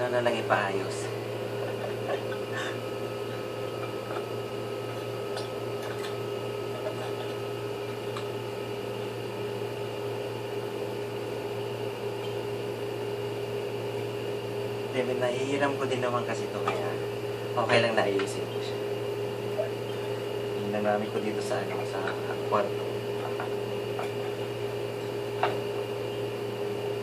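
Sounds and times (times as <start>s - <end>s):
motor humming with whine: 0.0s - 27.0s.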